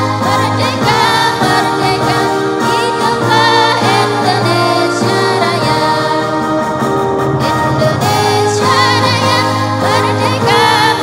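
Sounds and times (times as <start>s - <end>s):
women's choir singing over loudspeakers: 0.0s - 6.7s, 7.4s - 11.0s.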